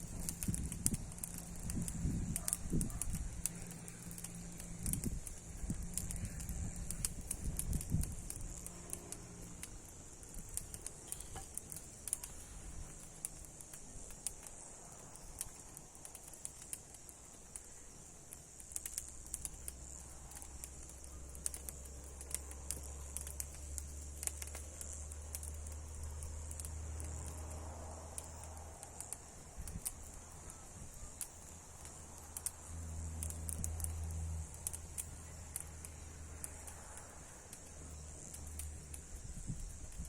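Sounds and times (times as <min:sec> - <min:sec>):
steady high hiss: 0:00.0 - 0:40.0
wood fire crackling: 0:00.0 - 0:40.0.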